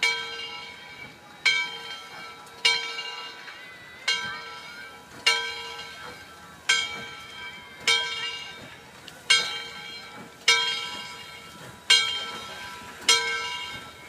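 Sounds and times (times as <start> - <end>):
locomotive bell clanging: 0.0 - 14.0.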